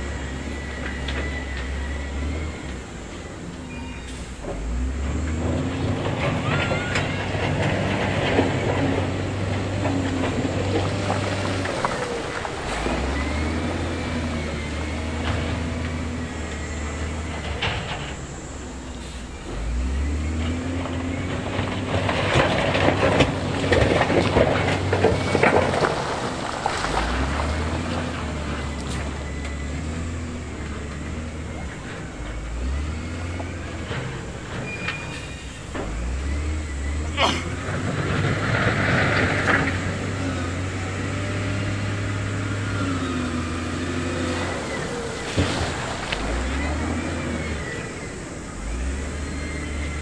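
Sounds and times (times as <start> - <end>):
diesel engine revving under load: 0.0 - 50.0
rock grinding and tumbling: 4.5 - 50.0.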